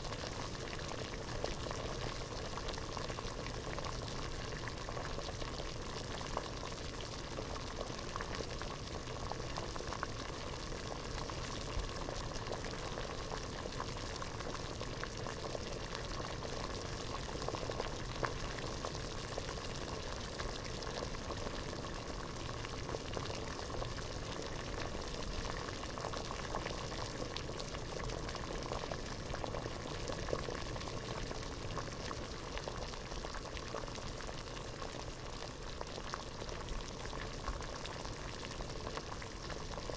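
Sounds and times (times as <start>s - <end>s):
water boiling in a pot: 0.0s - 39.9s.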